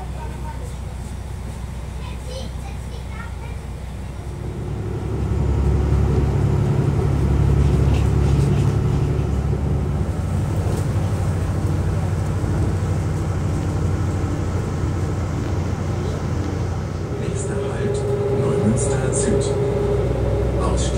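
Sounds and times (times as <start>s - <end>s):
diesel railcar engine droning: 0.0s - 20.9s.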